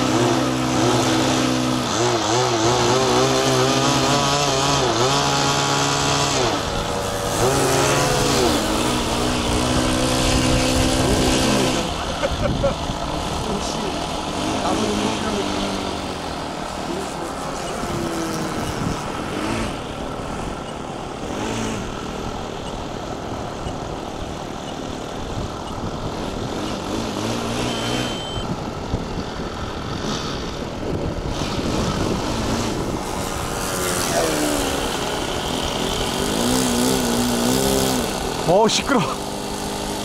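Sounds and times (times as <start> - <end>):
model plane propeller drone: 0.0 - 40.0.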